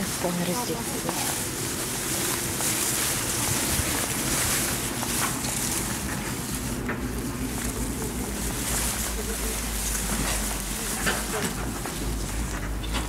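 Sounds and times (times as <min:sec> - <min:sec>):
rustles and clicks in grass: 0:00.0 - 0:13.0
wind buffeting microphone: 0:00.0 - 0:13.0.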